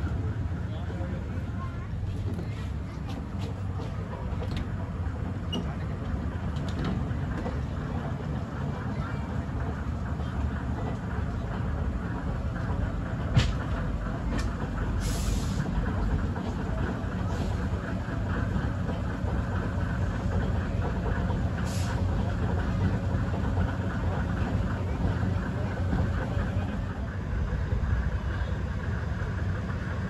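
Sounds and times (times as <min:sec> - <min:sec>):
diesel locomotive engine rumble: 0:00.0 - 0:30.0.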